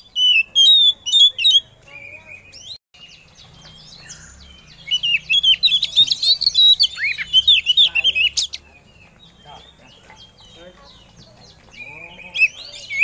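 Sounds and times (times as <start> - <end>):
bird chirping and whistling: 0.0 - 10.5, 11.7 - 13.0.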